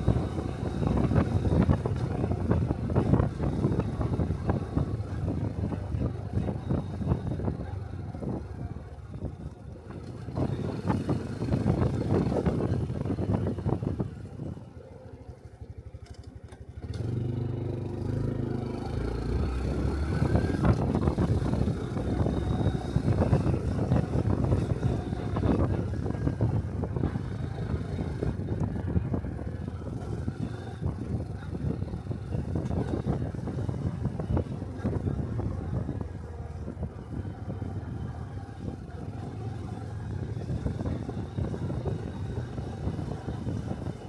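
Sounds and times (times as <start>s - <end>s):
motorcycle engine running: 0.0s - 44.0s
road and wind noise: 0.0s - 44.0s.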